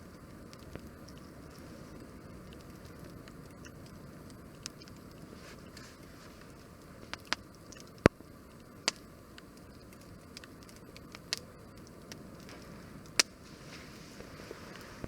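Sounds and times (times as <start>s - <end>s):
faint steady hiss: 0.0s - 15.0s
wood fire crackling and popping: 0.0s - 15.0s.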